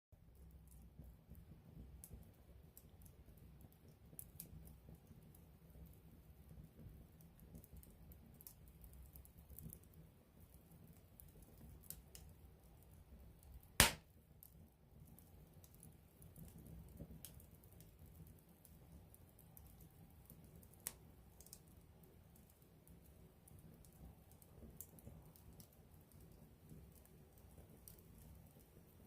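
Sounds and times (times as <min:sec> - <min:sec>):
campfire crackling and popping: 0:00.2 - 0:29.0
low rumble of flames: 0:00.2 - 0:29.0.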